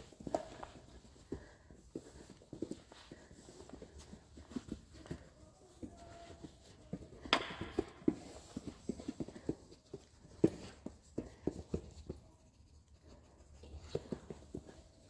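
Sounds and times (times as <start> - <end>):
footsteps on foam mats: 0.0 - 15.0.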